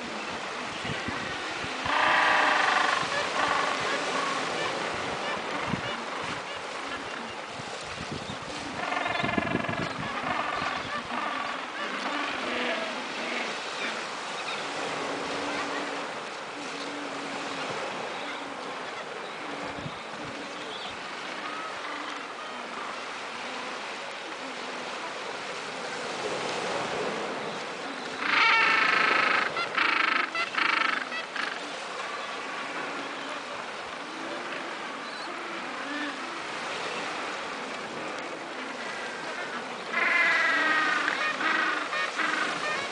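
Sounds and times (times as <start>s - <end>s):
waves lapping on pebble beach: 0.0s - 9.2s, 11.6s - 42.9s.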